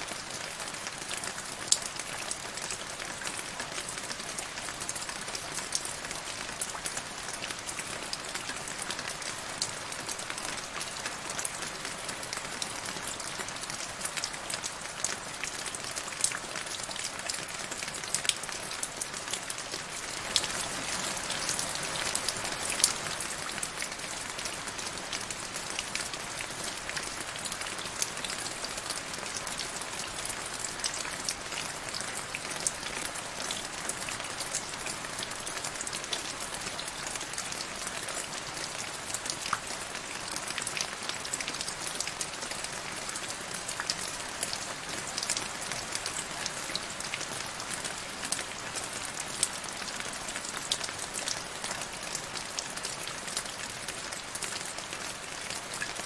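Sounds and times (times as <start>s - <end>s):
rain falling into a puddle: 0.0s - 56.0s.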